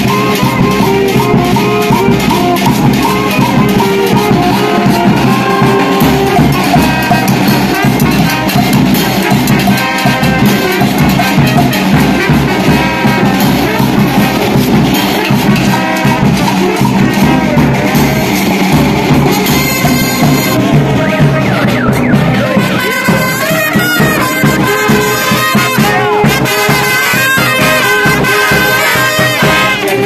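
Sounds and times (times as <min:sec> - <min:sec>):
brass band playing dance tune: 0:00.0 - 0:30.0
steady drum beat: 0:00.0 - 0:30.0.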